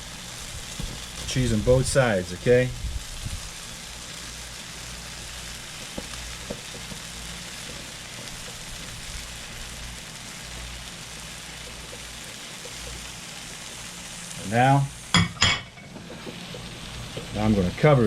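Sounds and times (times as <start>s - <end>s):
bread sizzling in a pan: 0.0s - 18.0s.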